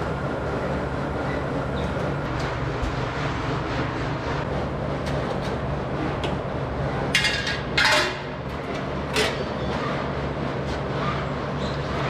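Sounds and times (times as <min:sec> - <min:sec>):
milking machinery low hum: 0:00.0 - 0:12.0.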